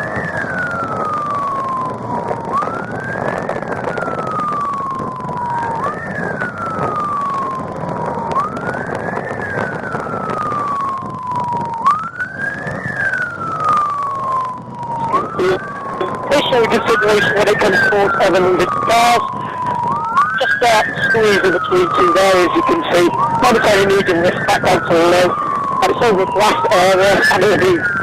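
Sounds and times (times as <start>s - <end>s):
police siren wailing: 0.0s - 28.0s
road noise: 0.0s - 28.0s.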